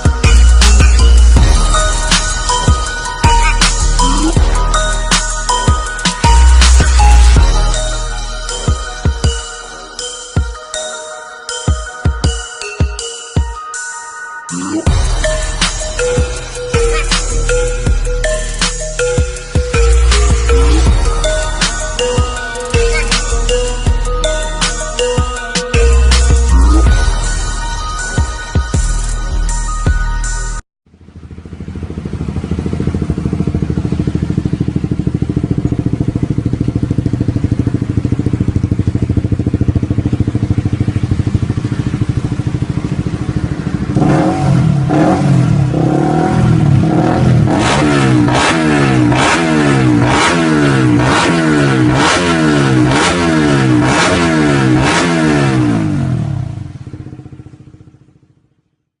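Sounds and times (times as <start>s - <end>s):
motorcycle engine idling and revving: 0.0s - 13.6s, 14.5s - 59.0s.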